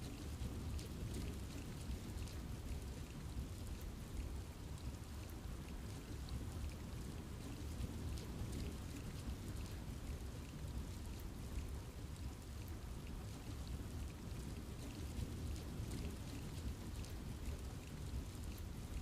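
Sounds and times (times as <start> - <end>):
rain falling in forest: 0.0 - 19.0.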